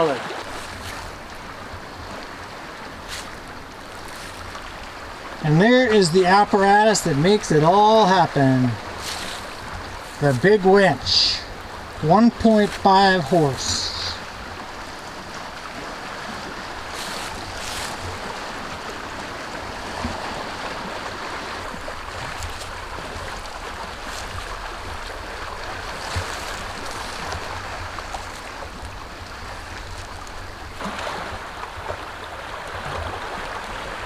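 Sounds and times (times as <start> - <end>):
water lapping on shoreline: 0.0 - 34.0
wind: 0.0 - 34.0.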